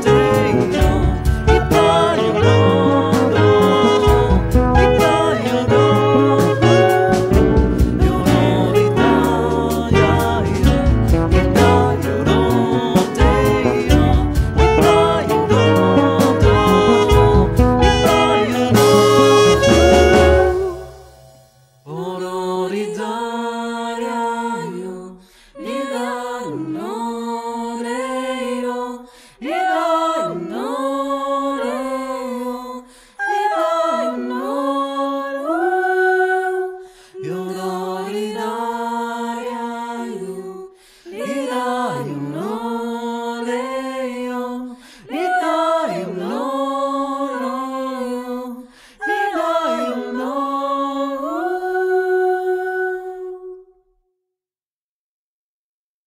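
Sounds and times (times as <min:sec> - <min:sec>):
a cappella voices singing in harmony: 0:00.0 - 0:21.2, 0:21.9 - 0:53.8.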